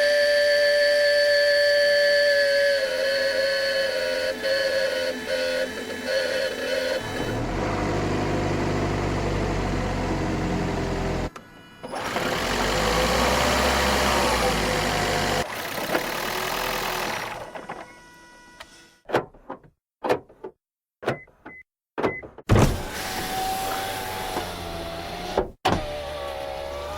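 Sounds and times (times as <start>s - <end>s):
electric car motor hum and whine: 0.0s - 18.8s, 22.8s - 26.9s.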